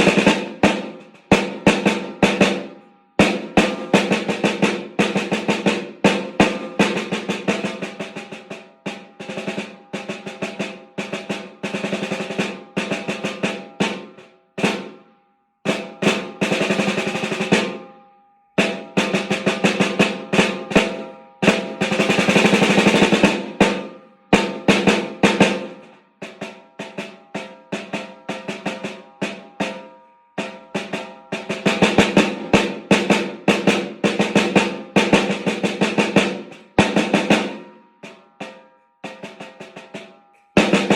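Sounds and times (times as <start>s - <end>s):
snare drum strokes and rolls: 0.0s - 15.0s, 15.7s - 17.8s, 18.6s - 40.9s.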